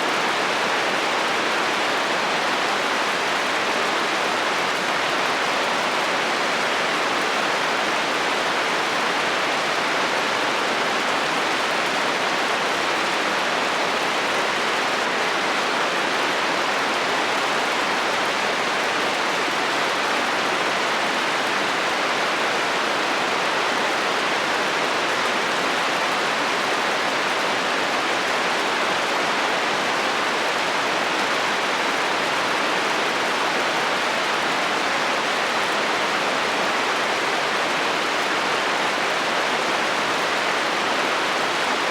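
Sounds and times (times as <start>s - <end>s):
heavy rain on a metal roof: 0.0s - 41.9s.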